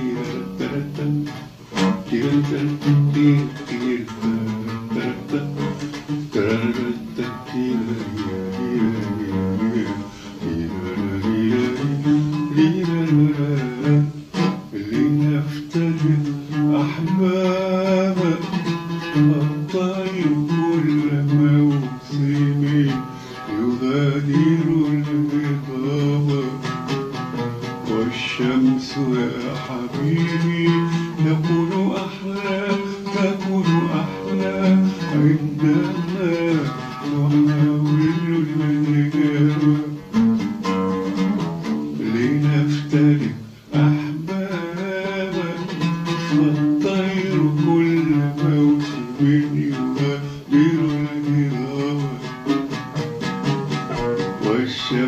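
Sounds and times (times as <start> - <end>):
man singing slow melody: 0.0 - 55.0
plucked oud notes: 0.0 - 55.0.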